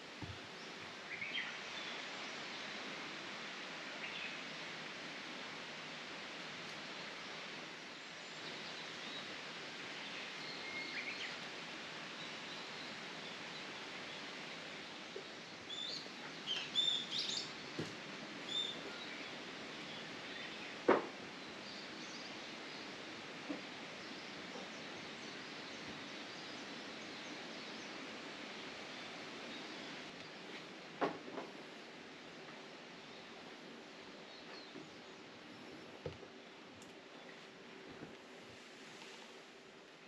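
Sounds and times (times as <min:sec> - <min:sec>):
outdoor background hiss: 0:00.0 - 0:40.0.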